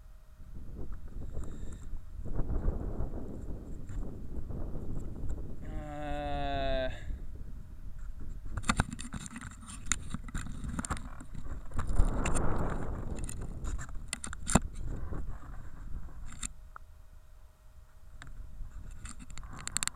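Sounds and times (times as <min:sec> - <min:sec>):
wind rumbling on microphone: 0:00.0 - 0:16.9, 0:18.0 - 0:19.9.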